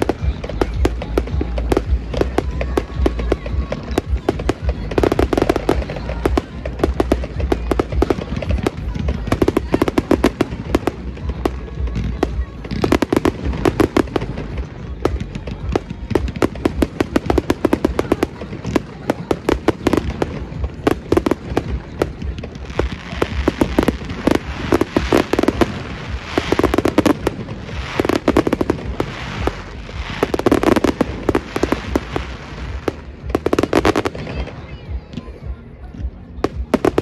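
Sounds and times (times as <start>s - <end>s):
fireworks bursting: 0.0s - 37.0s.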